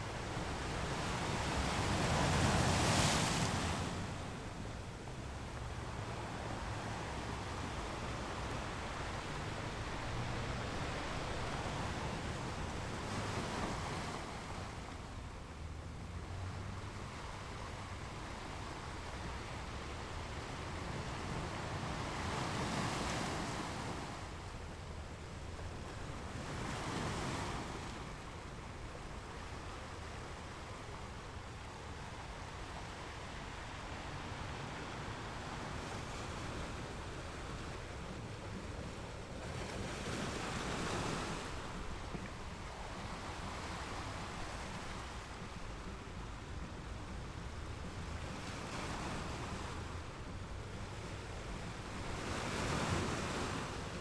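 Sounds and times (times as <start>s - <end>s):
ocean waves breaking on shore: 0.0s - 54.0s
wind rumble on microphone: 0.0s - 54.0s.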